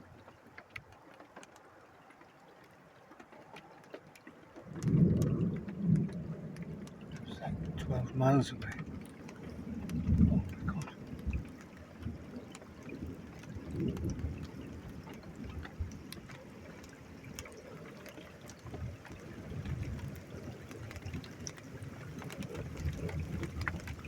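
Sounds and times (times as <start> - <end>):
raindrops ticking: 0.0 - 24.0.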